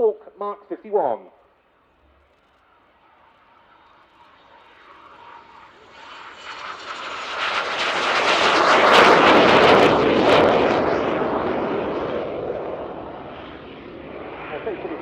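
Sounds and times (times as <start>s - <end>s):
jet flying past: 1.6s - 15.0s.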